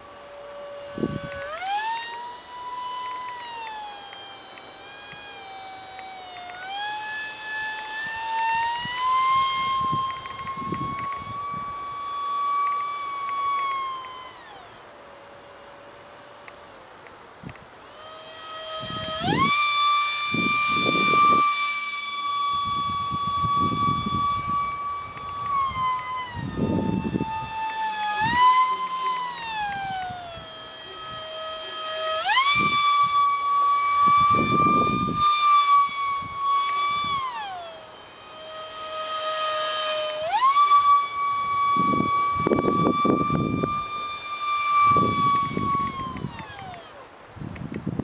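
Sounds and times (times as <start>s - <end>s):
electric ducted fan whining: 0.0s - 48.0s.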